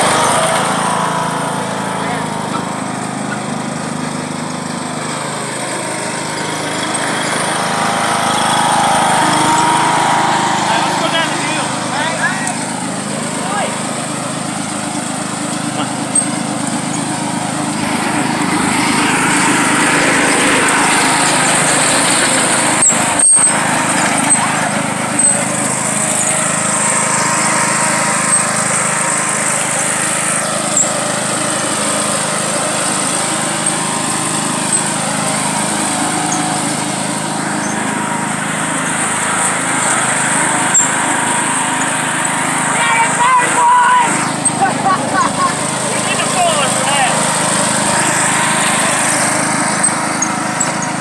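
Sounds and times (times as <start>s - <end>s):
lawn mower engine running: 0.0s - 51.0s.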